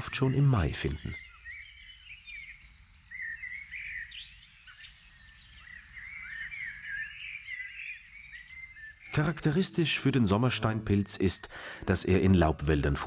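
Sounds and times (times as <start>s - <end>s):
small birds chirping and warbling: 0.0s - 13.0s.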